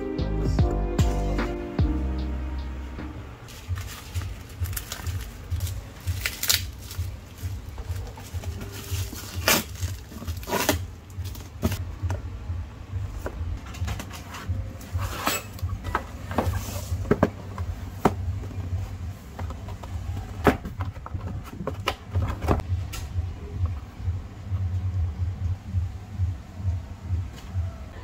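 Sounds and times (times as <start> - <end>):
steady low hum: 0.0 - 21.4, 22.0 - 28.0.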